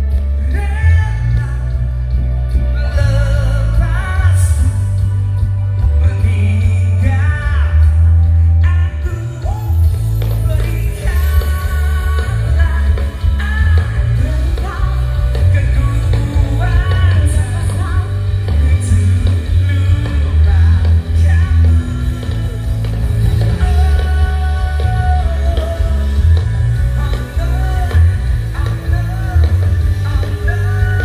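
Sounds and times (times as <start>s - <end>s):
person singing: 0.0s - 31.0s.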